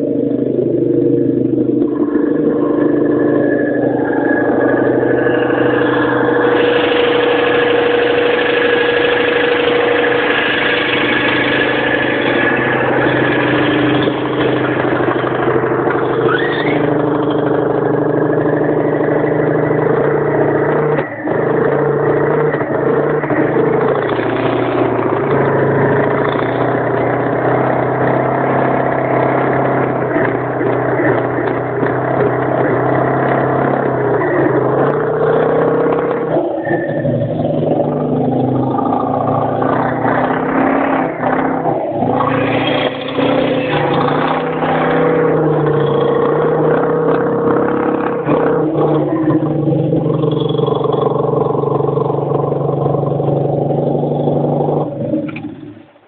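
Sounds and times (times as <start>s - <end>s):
flat-twin engine running: 0.0s - 36.3s, 41.0s - 55.4s.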